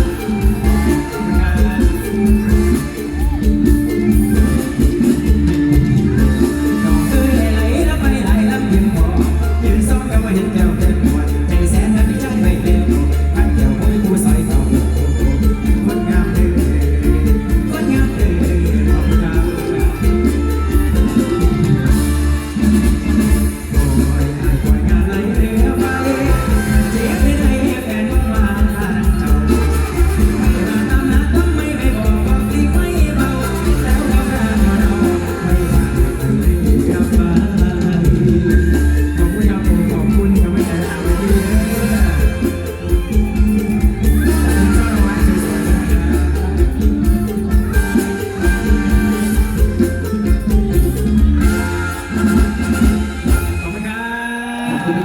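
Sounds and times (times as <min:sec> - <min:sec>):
plucked guitar-like melody: 0:00.0 - 0:53.9
regular drum beat: 0:00.0 - 0:53.9
amplified band music with heavy bass: 0:00.0 - 0:55.0.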